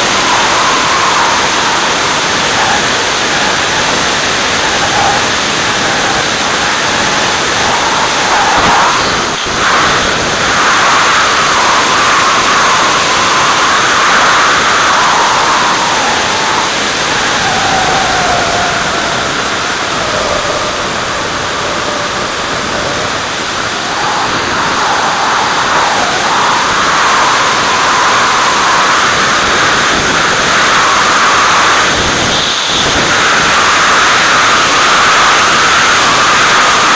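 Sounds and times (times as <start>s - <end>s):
jet airflow and engine noise: 0.0s - 36.9s.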